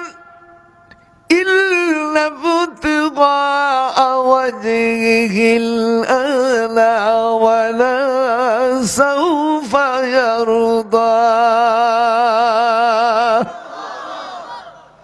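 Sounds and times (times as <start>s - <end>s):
man chanting melodically: 0.0s - 13.5s.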